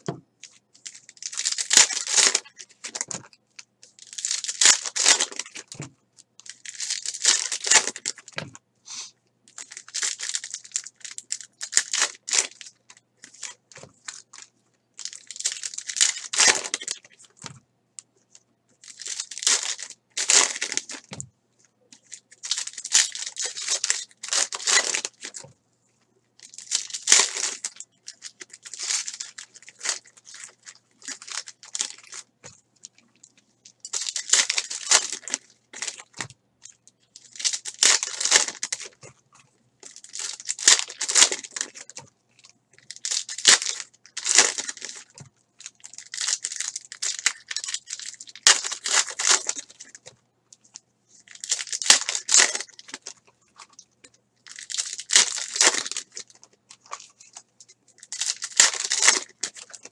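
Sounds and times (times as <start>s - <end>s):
foil wrappers tearing and crinkling: 0.0s - 3.3s, 3.9s - 5.8s, 6.4s - 17.3s, 18.8s - 21.2s, 22.0s - 25.5s, 26.4s - 32.3s, 33.8s - 36.3s, 37.2s - 39.0s, 39.8s - 42.0s, 42.8s - 50.1s, 51.3s - 53.8s, 54.4s - 57.4s, 58.0s - 59.9s.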